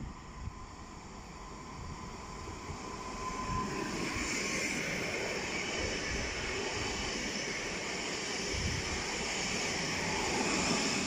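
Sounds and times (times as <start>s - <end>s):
electric train running past: 0.0s - 11.0s.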